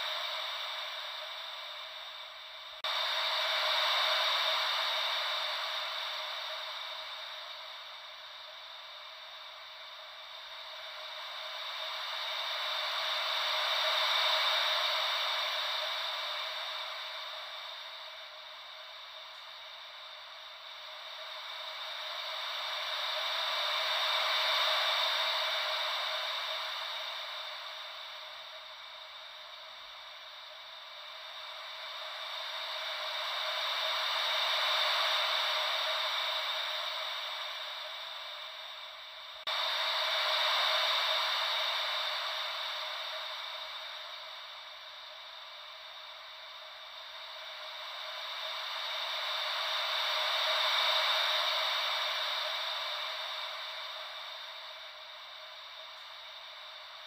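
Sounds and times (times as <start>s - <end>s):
ocean wave white noise: 0.0s - 57.0s.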